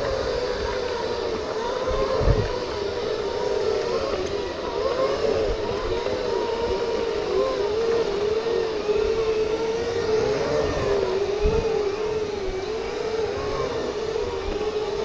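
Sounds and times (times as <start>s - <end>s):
electric motors whining: 0.0s - 15.0s
wind rumble on microphone: 0.0s - 15.0s.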